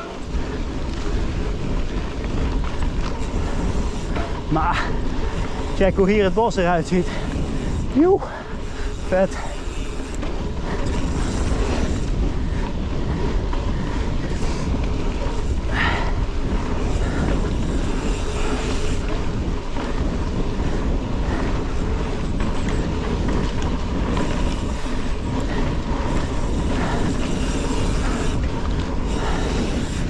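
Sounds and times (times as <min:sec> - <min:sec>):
bike rattles and clicks: 0:00.0 - 0:30.0
tyres on dirt: 0:00.0 - 0:30.0
wind on microphone: 0:00.0 - 0:30.0.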